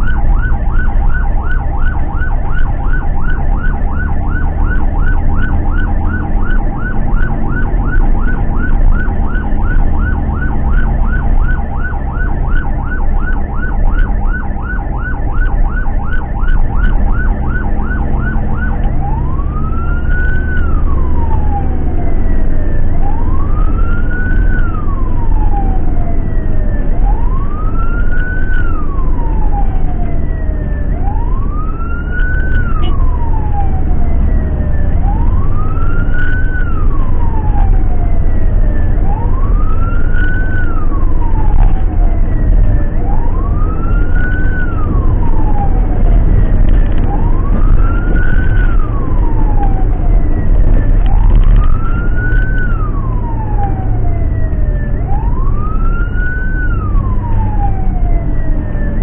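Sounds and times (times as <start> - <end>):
ambulance siren: 0.0 - 59.0
engine and road noise: 0.0 - 59.0.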